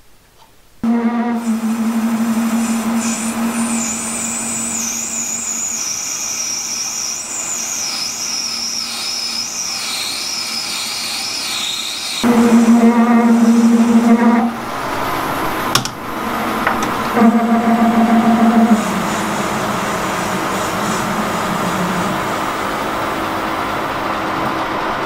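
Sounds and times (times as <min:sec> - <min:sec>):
machine tool motor humming: 0:00.8 - 0:24.7.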